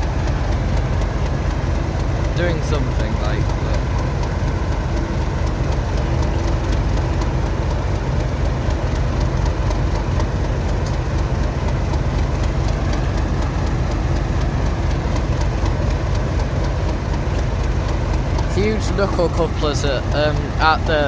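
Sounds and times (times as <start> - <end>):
diesel locomotive engine idling: 0.0 - 21.0.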